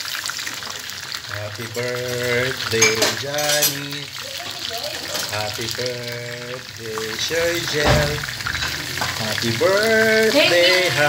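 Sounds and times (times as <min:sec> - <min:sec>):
chicken sizzling in oil: 0:00.0 - 0:11.0
utensils clinking: 0:01.5 - 0:11.0.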